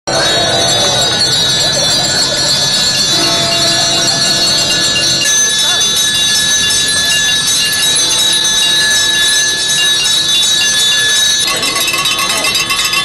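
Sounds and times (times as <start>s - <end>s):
bell shaken rapidly: 0.1s - 13.0s
many hand bells jangling: 0.1s - 13.0s.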